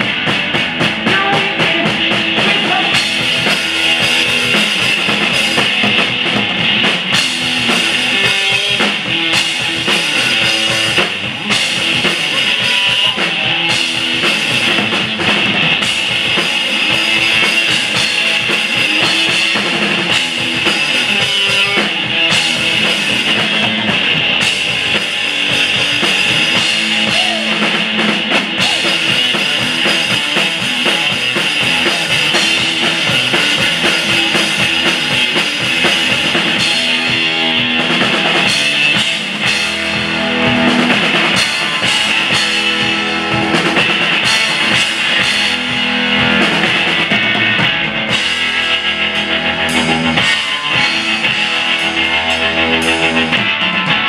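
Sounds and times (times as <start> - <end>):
drum kit: 0.0 - 54.0
electric guitar riff: 0.0 - 54.0.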